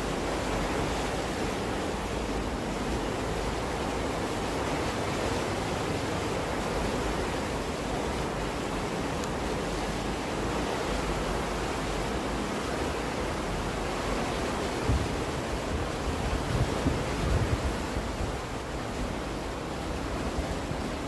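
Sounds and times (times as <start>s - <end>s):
water rushing and churning: 0.0s - 21.0s.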